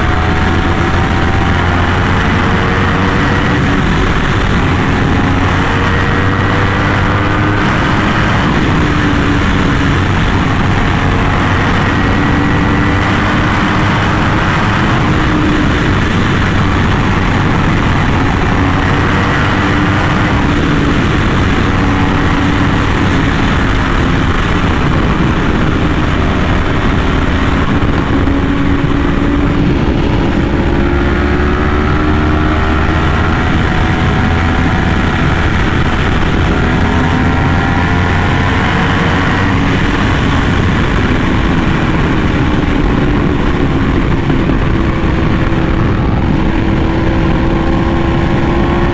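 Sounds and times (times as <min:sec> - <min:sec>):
motorcycle engine while riding: 0:00.0 - 0:48.9.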